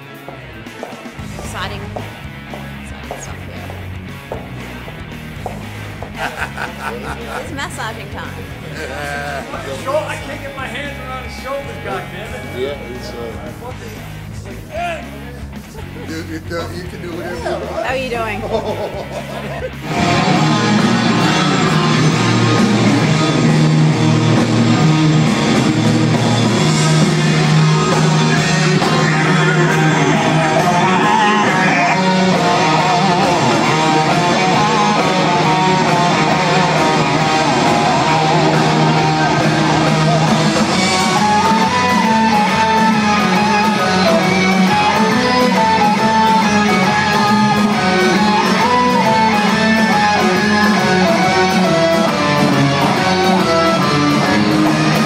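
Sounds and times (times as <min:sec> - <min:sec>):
melodic guitar lead: 0:00.0 - 0:55.0
rock music with electric guitar: 0:00.0 - 0:55.0
bass line: 0:01.2 - 0:55.0.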